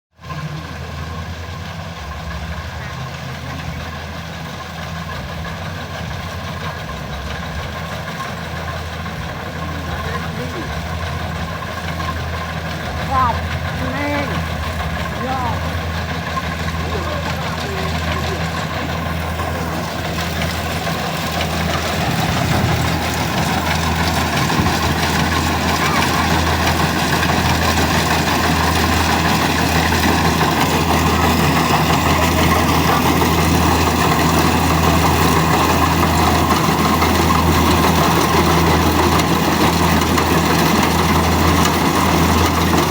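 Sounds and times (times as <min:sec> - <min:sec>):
combine harvester engine running: 0:00.2 - 0:42.9.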